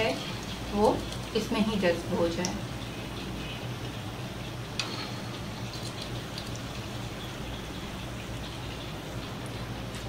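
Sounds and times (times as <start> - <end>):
hot oil sizzling and crackling: 0.0 - 10.0
low steady hum: 0.0 - 10.0.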